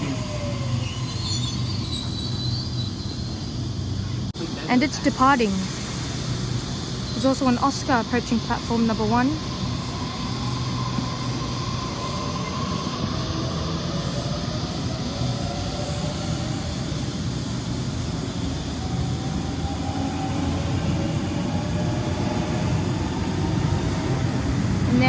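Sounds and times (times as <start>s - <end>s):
approaching train rail rumble: 0.0s - 25.0s
electric train motor whine: 0.0s - 25.0s.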